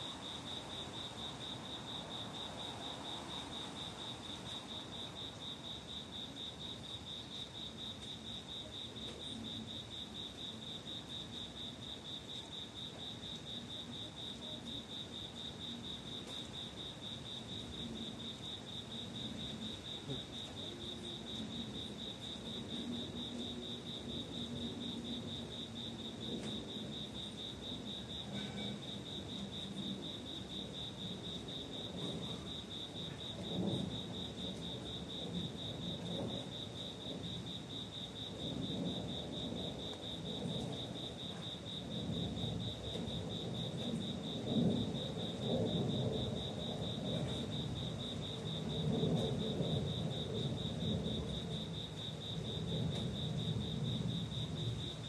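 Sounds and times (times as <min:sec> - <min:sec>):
cricket trilling: 0:00.0 - 0:55.0
faint low background noise: 0:00.0 - 0:55.0.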